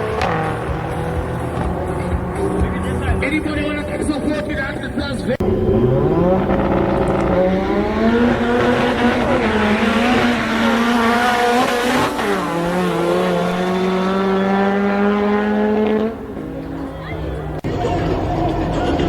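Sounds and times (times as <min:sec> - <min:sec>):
sports car engines accelerating: 0:00.0 - 0:19.0.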